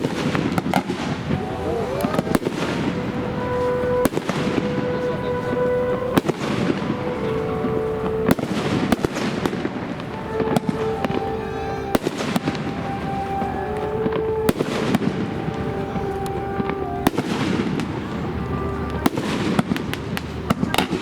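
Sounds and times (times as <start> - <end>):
fireworks bangs: 0.0 - 21.0
fireworks rumble and crackle: 0.0 - 21.0.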